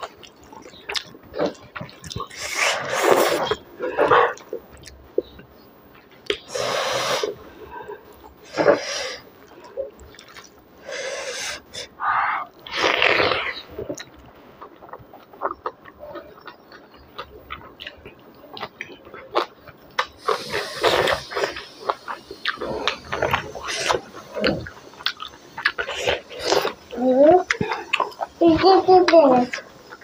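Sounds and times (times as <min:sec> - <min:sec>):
wet chewing and lip-smacking: 0:00.0 - 0:06.5, 0:09.4 - 0:10.7, 0:13.8 - 0:30.0.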